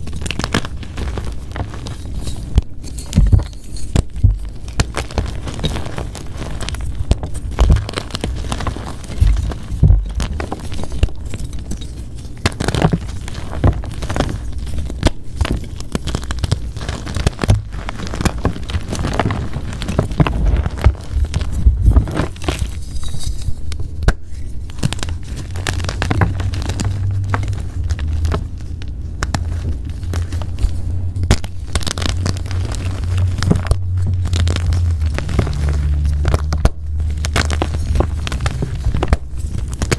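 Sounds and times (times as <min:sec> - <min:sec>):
chalk being crushed and crumbled: 0:00.0 - 0:39.9
steady low hum: 0:00.0 - 0:39.9.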